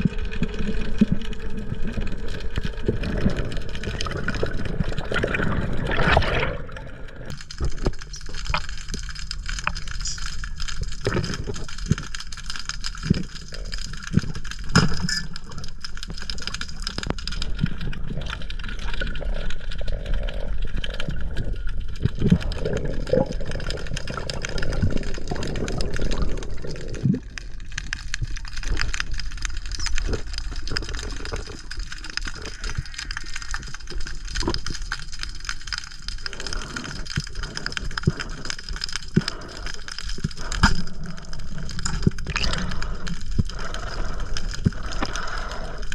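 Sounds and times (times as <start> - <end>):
underwater rumble of moving water: 0.0 - 45.9.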